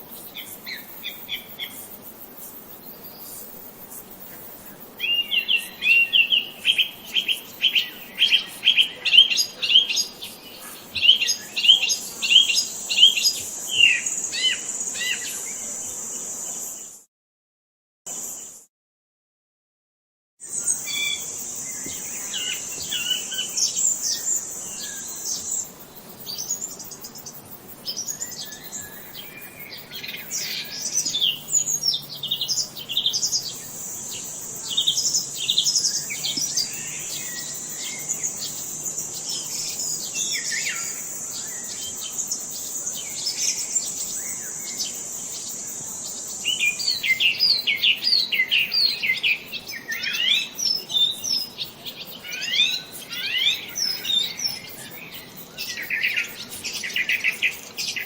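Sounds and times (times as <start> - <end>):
songbirds chirping: 0.0 - 17.0, 20.4 - 58.0.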